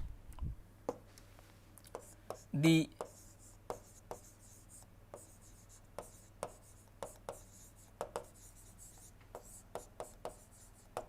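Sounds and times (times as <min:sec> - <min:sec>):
faint pen scratching: 0:01.9 - 0:11.0
pen tapping and stroking: 0:01.9 - 0:11.0.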